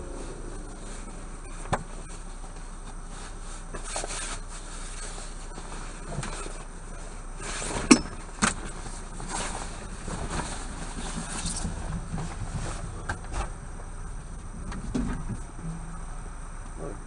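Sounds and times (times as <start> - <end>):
low hum in truck cab: 0.0 - 17.0.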